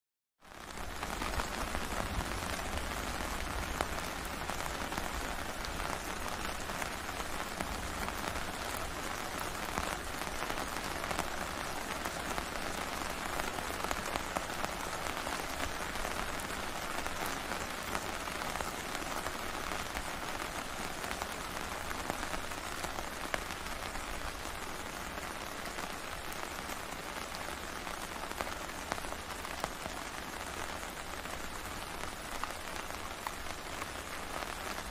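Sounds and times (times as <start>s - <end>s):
rain hissing on a tent: 0.4s - 34.9s.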